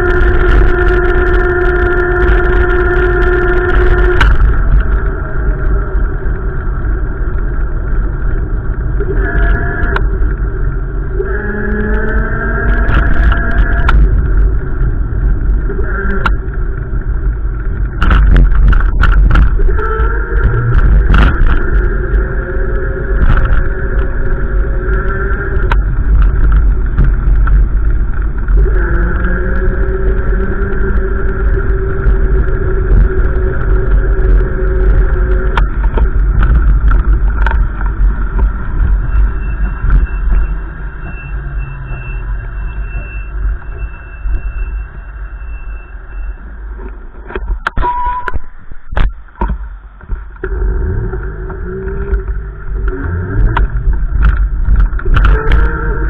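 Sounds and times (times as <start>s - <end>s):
wind buffeting microphone: 0.0s - 42.4s, 48.3s - 56.0s
steady hum: 0.0s - 56.0s.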